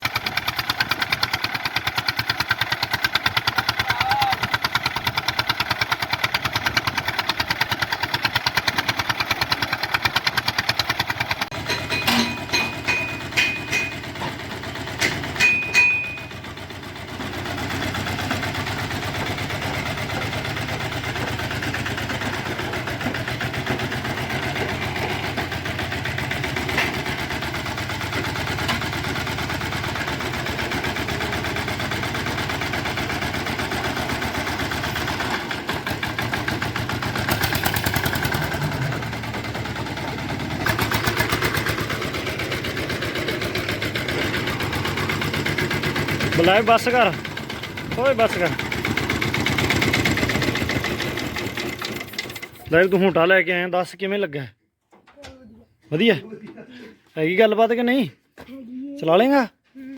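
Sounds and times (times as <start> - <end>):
tractor diesel engine running: 0.0 - 53.6.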